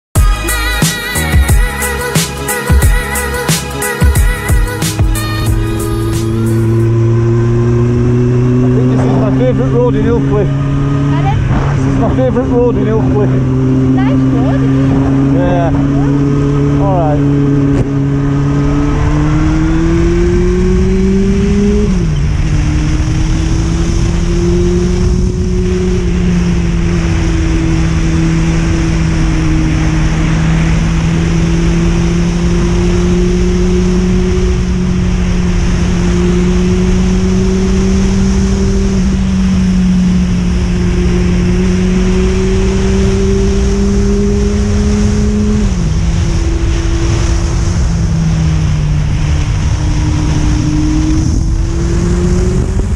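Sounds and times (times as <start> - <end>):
motorcycle engine running: 0.0 - 52.9
wind noise: 6.7 - 52.9.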